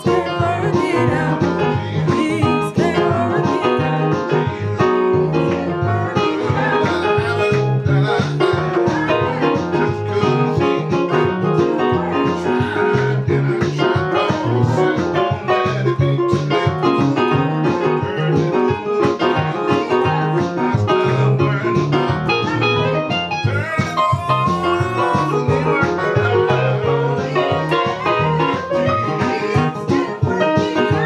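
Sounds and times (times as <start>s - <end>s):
instrumental keyboard music with bass: 0.0s - 31.0s.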